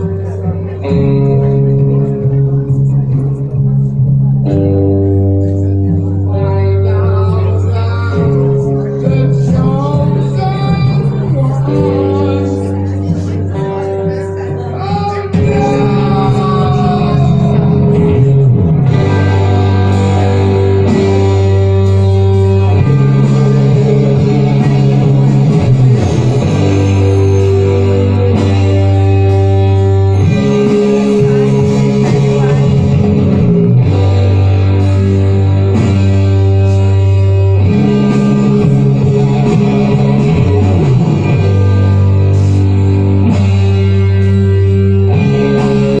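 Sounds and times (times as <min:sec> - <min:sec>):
sustained low notes: 0:00.0 - 0:46.0.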